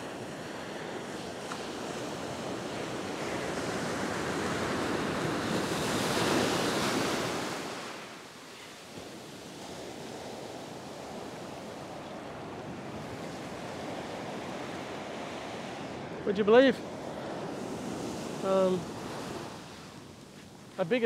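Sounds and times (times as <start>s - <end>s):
surf washing up sand: 0.0s - 21.0s.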